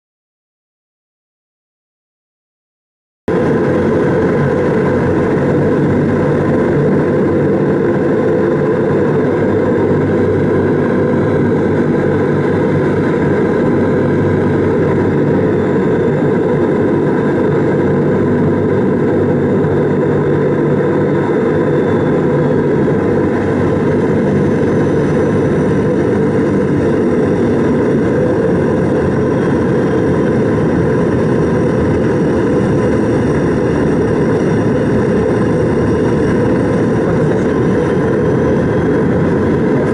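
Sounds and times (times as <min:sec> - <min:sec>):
turboprop engines droning: 0:03.3 - 0:39.9.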